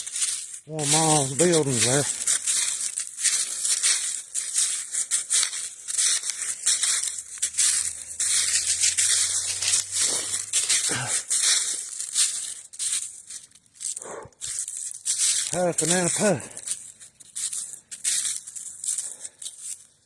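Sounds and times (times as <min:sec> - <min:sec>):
footsteps crunching on dry ground: 0:00.0 - 0:20.0.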